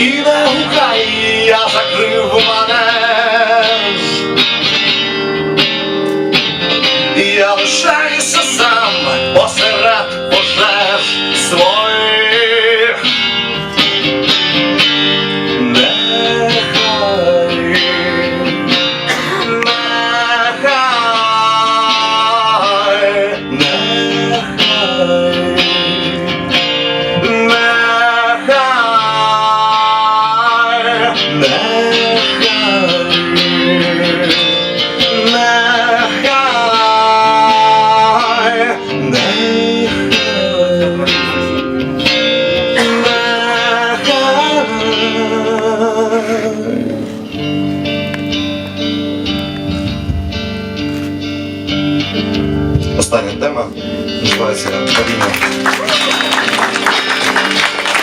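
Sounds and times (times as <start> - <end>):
guitar melody bending in pitch: 0.0 - 58.0
live band playing: 0.0 - 58.0.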